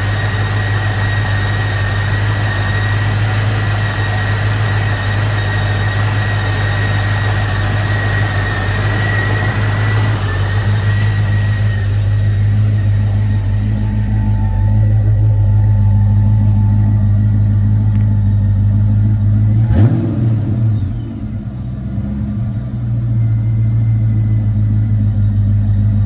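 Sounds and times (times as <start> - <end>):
car engine idling: 0.0 - 26.0
engine throttle blip: 0.0 - 26.0.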